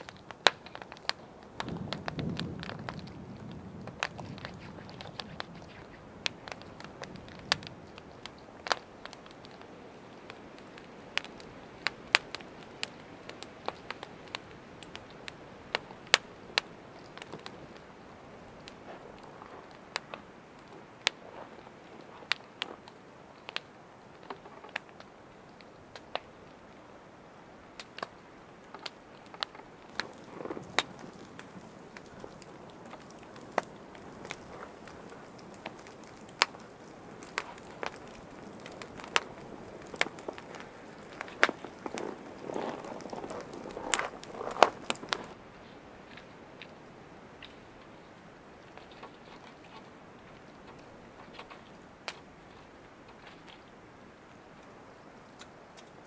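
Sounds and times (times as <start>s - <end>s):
soft rustle: 0.0s - 26.8s, 27.8s - 56.0s
campfire crackling and popping: 0.0s - 56.0s.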